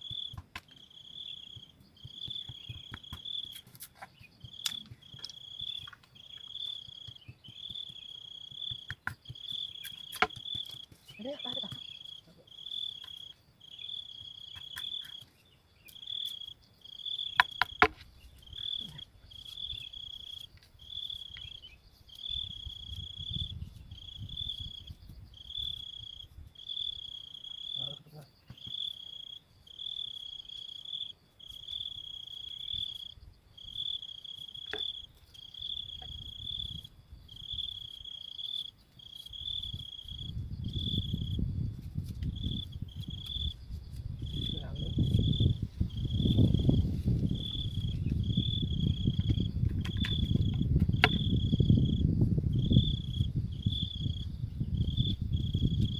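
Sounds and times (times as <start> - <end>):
insect buzzing trill: 0.0 - 15.2, 15.8 - 55.9.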